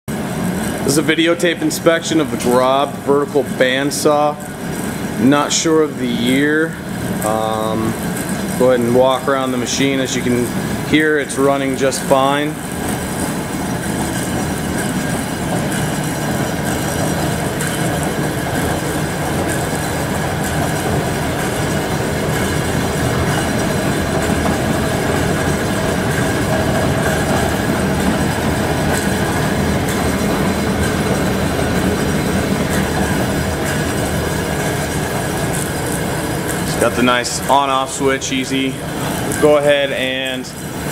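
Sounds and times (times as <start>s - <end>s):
band saw motor whirring: 0.1s - 40.9s.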